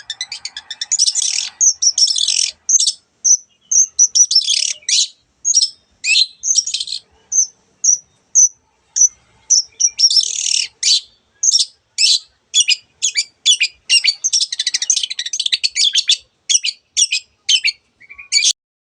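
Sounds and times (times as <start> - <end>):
bird singing high chirps: 0.0 - 18.6.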